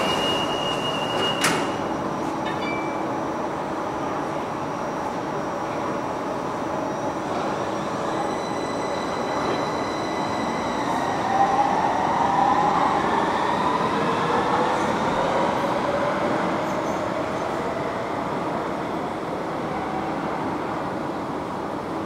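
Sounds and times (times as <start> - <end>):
metro train rumbling: 0.0 - 22.0.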